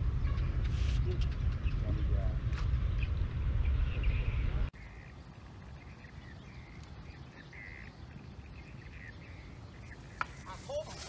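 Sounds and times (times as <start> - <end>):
bird chirping: 1.0 - 11.0.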